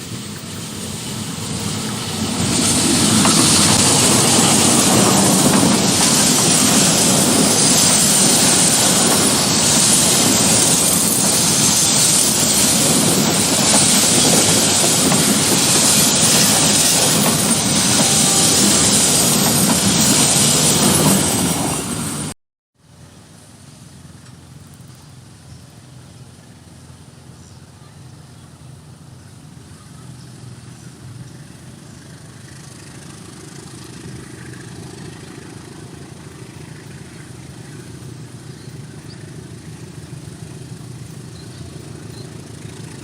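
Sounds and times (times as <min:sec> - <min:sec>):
train wheels rushing on rail: 0:00.0 - 0:22.4, 0:27.9 - 0:43.0.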